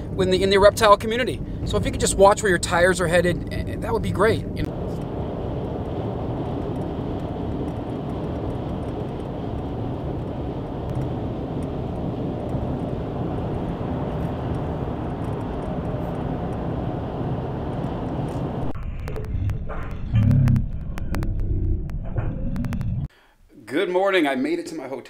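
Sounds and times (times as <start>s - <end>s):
car driving rumble: 0.0s - 23.1s.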